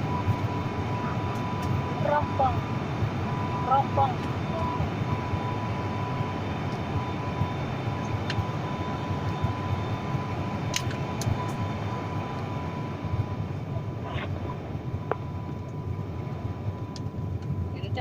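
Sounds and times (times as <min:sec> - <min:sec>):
airliner cabin engine rumble: 0:00.0 - 0:18.0
thin steady whine: 0:00.0 - 0:18.0.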